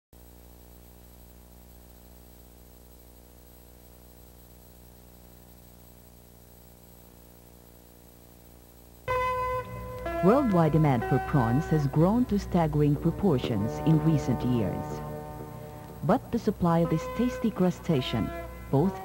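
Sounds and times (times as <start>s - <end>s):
electrical mains hum: 0.2s - 19.0s
videotape hiss: 0.2s - 19.0s.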